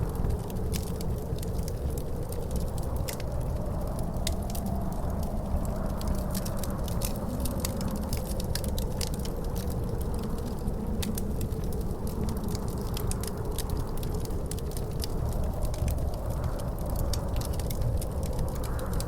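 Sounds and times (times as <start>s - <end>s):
wind rumbling and howling: 0.0s - 19.0s
wood fire crackling and popping: 0.0s - 19.0s.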